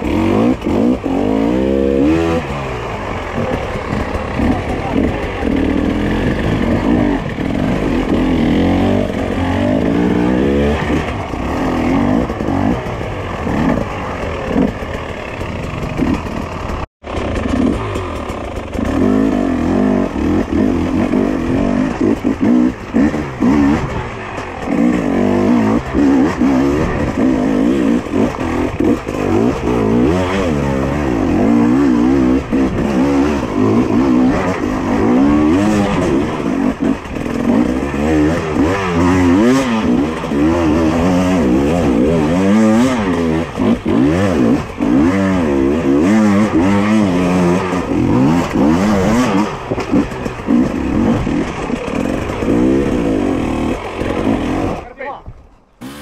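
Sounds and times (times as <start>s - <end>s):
two-stroke engine revving: 0.0s - 55.1s, 55.8s - 56.0s.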